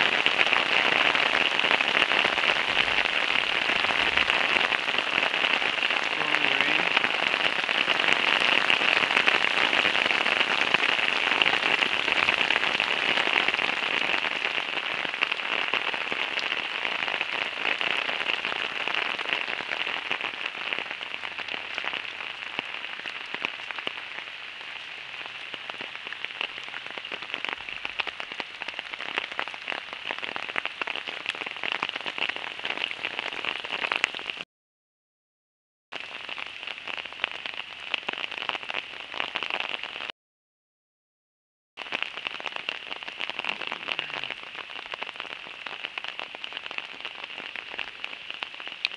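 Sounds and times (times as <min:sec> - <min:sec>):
heavy rain pouring: 0:00.0 - 0:34.4, 0:36.0 - 0:40.1, 0:41.8 - 0:48.9.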